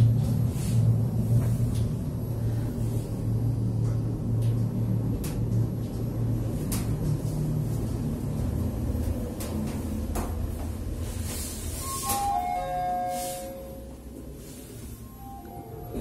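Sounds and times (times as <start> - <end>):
lift hum and rumble: 0.0 - 16.0.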